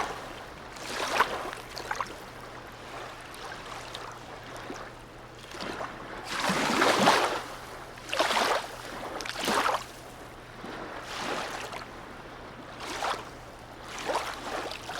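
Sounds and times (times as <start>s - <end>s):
water lapping and splashing: 0.0s - 14.9s.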